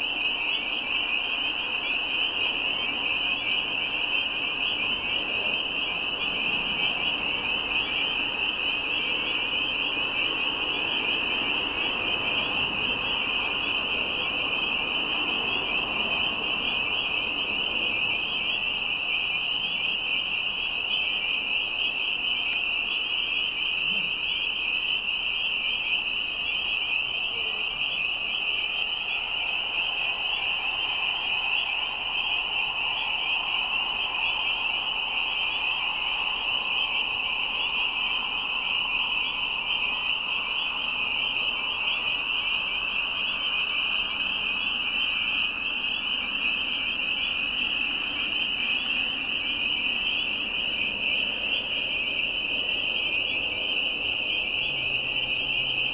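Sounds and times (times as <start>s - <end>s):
chorus of peeping frogs: 0.0s - 55.9s.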